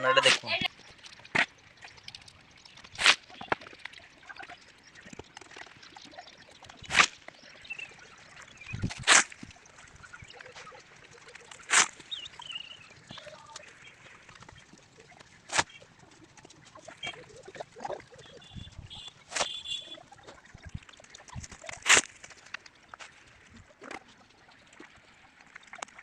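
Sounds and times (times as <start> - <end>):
wet concrete slapping: 0.0 - 24.2.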